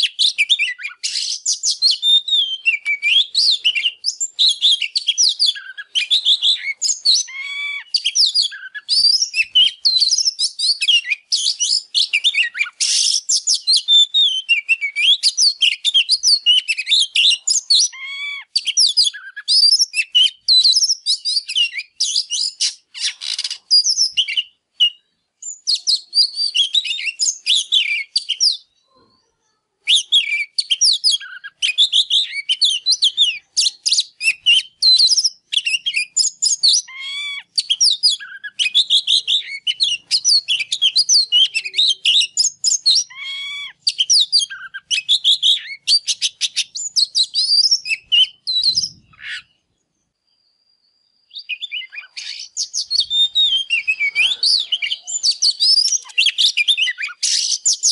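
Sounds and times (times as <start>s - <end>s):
bird singing whistles and chatter: 0.0s - 28.8s, 29.8s - 49.6s, 50.7s - 57.9s.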